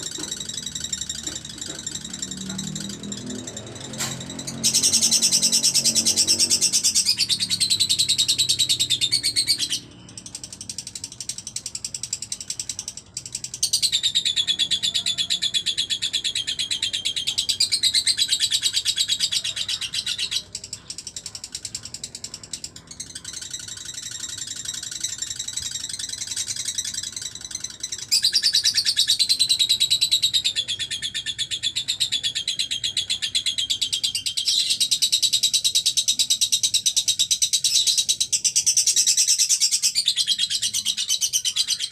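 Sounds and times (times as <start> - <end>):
lovebird chattering song: 0.0 - 41.9.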